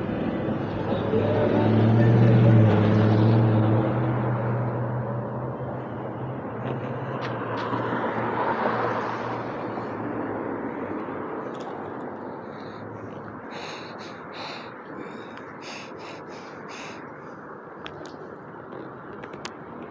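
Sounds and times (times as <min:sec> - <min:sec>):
vehicle passing by: 0:00.0 - 0:17.1.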